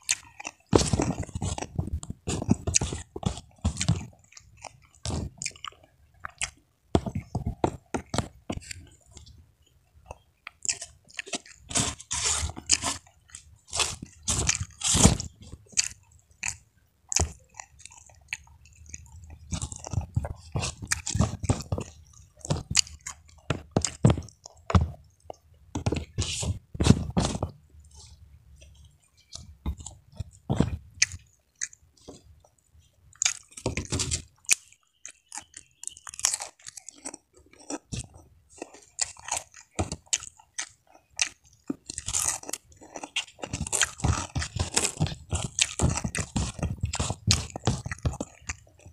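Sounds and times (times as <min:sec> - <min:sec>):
person chewing crisp food: 0:00.0 - 0:48.9.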